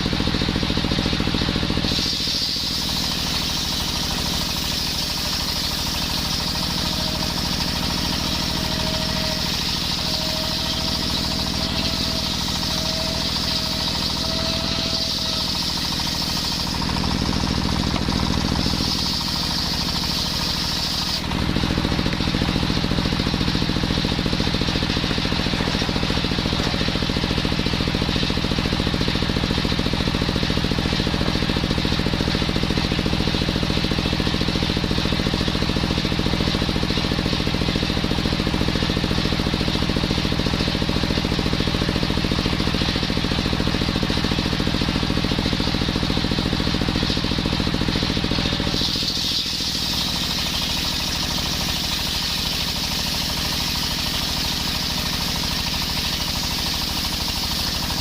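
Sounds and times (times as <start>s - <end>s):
circular saw engine running: 0.0s - 58.0s
saw cutting wood hiss: 0.0s - 58.0s.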